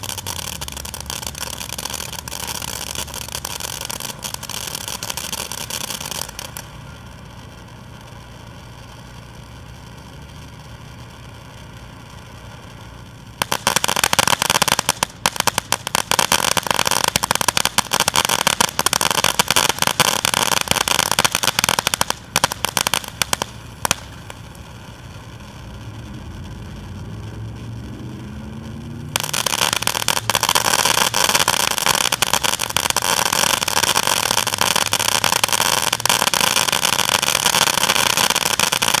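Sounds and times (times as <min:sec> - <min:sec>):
dense firework crackling: 0:00.0 - 0:39.0
firework fountain gushing sparks: 0:00.0 - 0:39.0.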